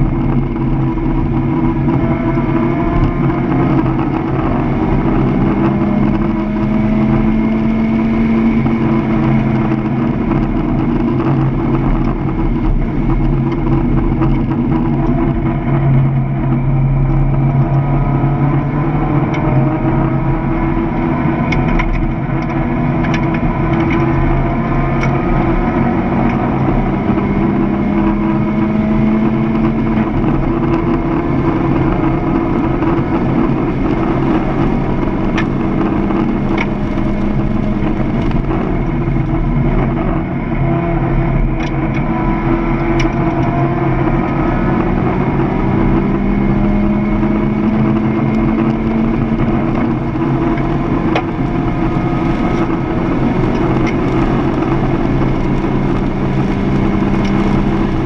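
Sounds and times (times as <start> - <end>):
car engine revving under acceleration: 0.0 - 58.0.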